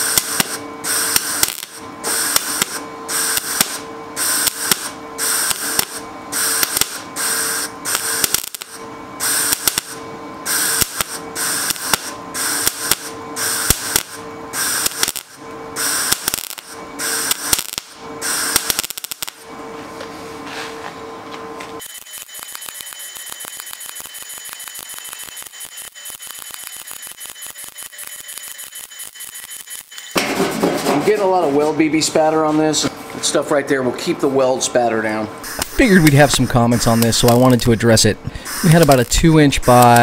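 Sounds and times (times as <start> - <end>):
welder crackling bursts: 0.0 - 19.4, 21.8 - 30.2, 35.4 - 40.0
steady welder hum: 0.0 - 40.0.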